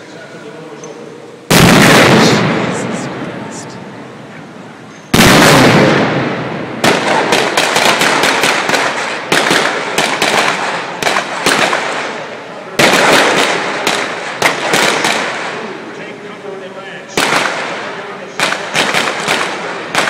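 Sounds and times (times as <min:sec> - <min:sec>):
gunshots with long echoes: 0:01.4 - 0:04.4, 0:05.1 - 0:20.0.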